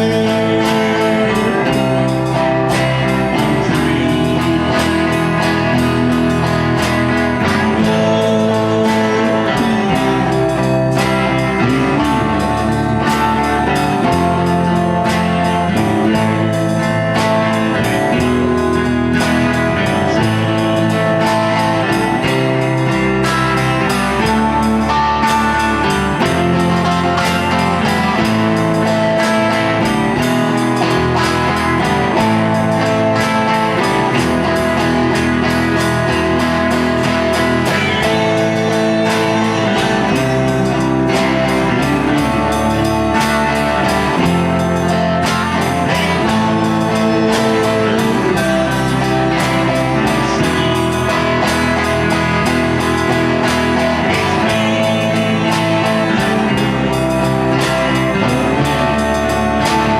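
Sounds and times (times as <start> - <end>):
bass: 0.0 - 59.9
guitar: 0.0 - 59.9
live rock band playing: 0.0 - 59.9
steady drum beat: 0.0 - 59.9.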